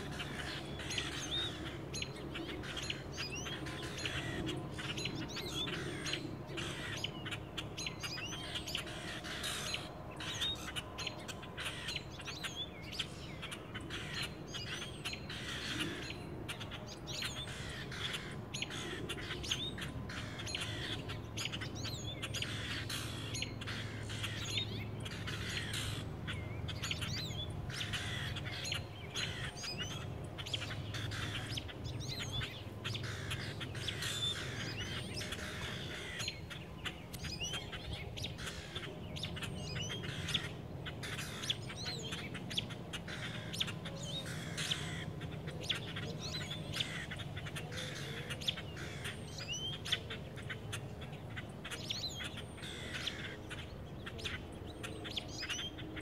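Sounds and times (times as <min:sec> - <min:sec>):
small birds chirping: 0:00.0 - 0:56.0
steady low hum: 0:00.0 - 0:56.0.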